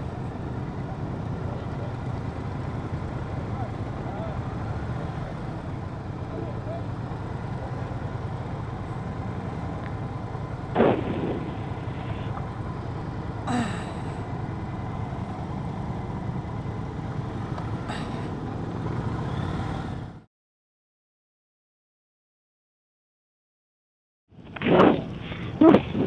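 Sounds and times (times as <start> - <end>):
motorcycle engine rumbling: 0.0 - 20.3, 24.3 - 26.0.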